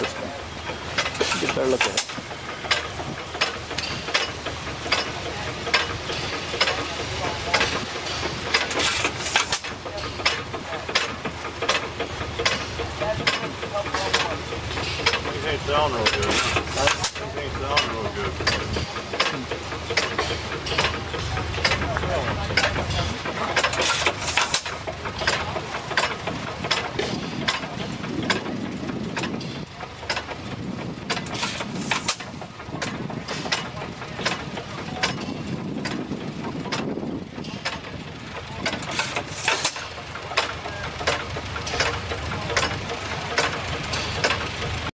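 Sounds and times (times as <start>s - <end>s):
engine flywheel clicking: 0.0s - 44.9s.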